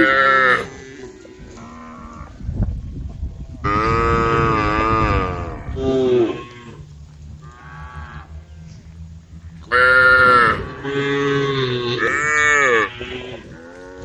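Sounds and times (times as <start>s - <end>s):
cows mooing: 0.0s - 2.4s, 3.6s - 14.0s.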